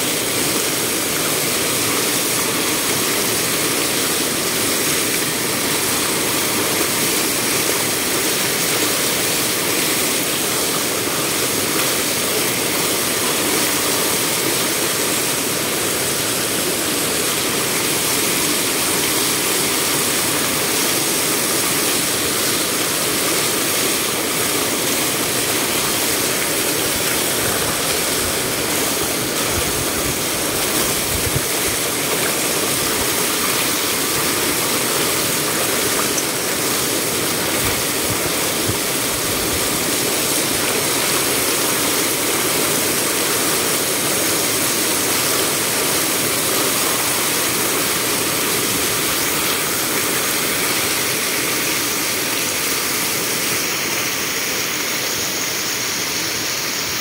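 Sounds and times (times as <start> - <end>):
water rushing over stone: 0.0 - 57.0.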